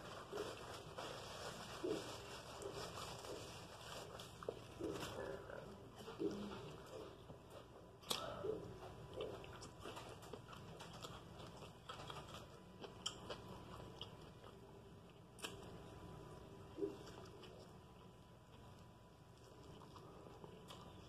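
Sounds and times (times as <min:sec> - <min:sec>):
chewing and mouth sounds: 0:00.1 - 0:15.9, 0:16.6 - 0:21.0.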